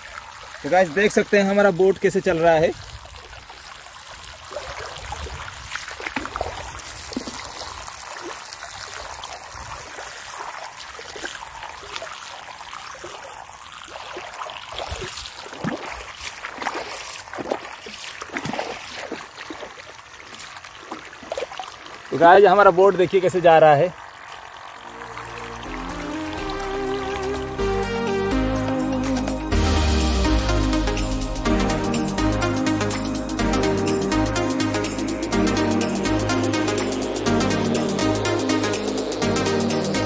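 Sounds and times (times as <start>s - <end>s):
propeller splashing water: 0.0s - 40.0s.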